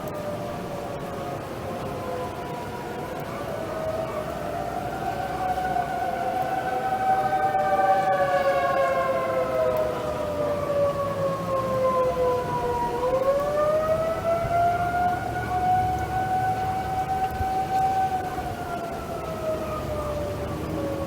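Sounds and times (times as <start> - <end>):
steady siren tone: 0.0 - 21.0.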